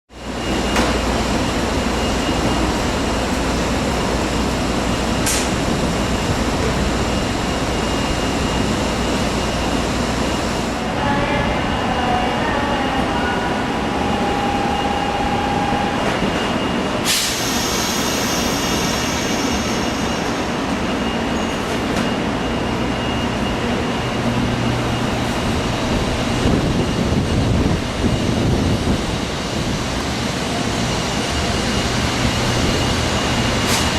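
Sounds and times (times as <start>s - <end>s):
train equipment running: 0.2s - 10.9s, 13.9s - 33.9s
train pulling away rumble: 0.2s - 12.3s, 13.0s - 33.9s.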